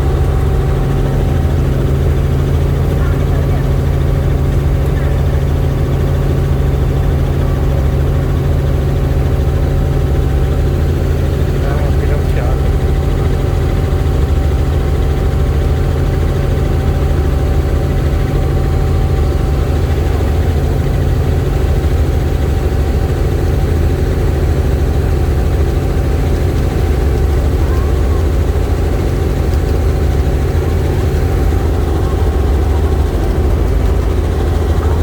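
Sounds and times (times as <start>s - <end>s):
helicopter engine and rotor drone: 0.0s - 35.0s.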